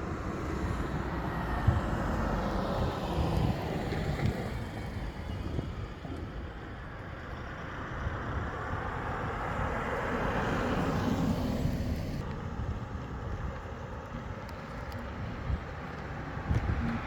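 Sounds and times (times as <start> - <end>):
vehicles passing on a road: 0.0 - 17.0.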